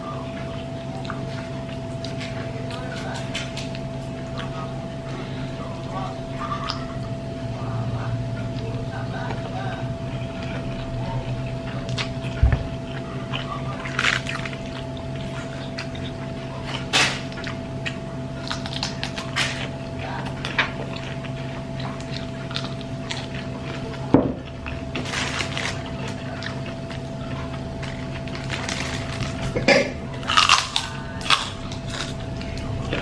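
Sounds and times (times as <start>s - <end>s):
person chewing and crunching: 0.0s - 33.0s
steady hum: 0.0s - 33.0s.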